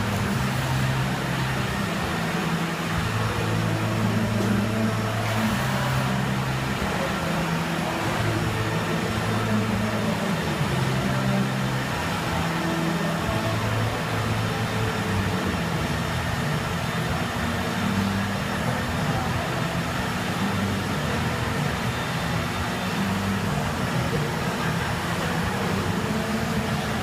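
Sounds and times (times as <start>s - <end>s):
noisy workshop background: 0.0s - 27.0s
pipe bending machine hum: 0.0s - 27.0s.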